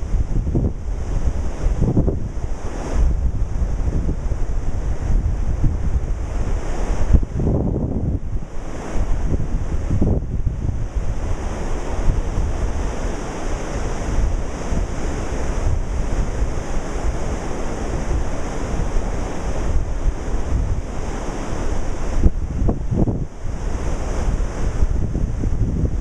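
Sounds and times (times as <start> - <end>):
waves breaking and washing in: 0.0 - 26.0
wind buffeting the microphone: 0.0 - 26.0.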